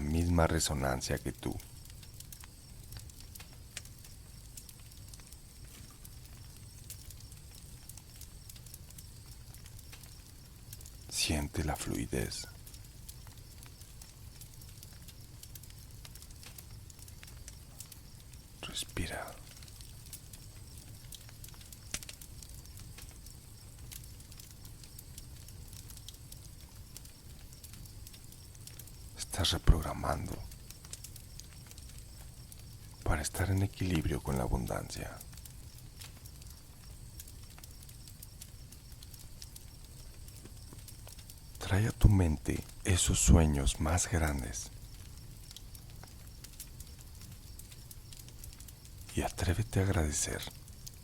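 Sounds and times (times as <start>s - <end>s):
campfire crackling: 0.0s - 51.0s
crickets chirping: 0.0s - 51.0s.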